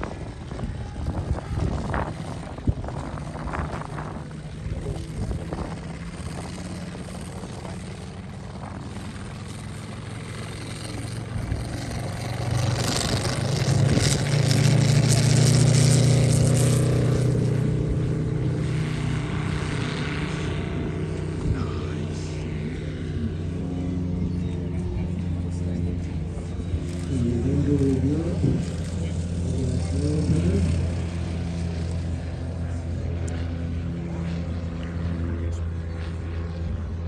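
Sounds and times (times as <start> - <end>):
model plane propeller drone: 0.0 - 37.0.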